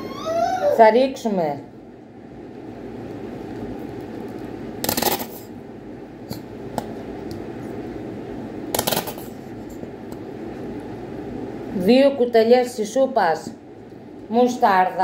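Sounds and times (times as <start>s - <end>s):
extractor hood fan humming: 0.0s - 15.0s.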